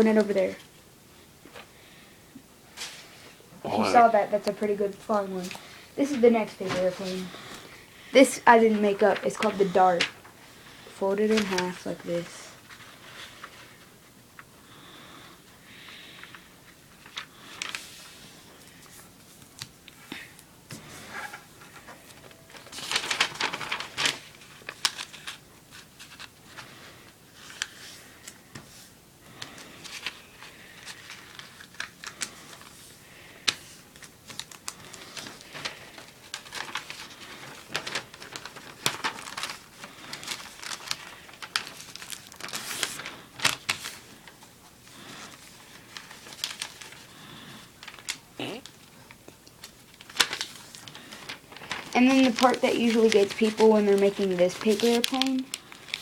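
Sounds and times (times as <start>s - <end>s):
paper rustling and crinkling: 0.0s - 0.7s, 2.7s - 3.4s, 4.0s - 14.9s, 15.7s - 56.0s.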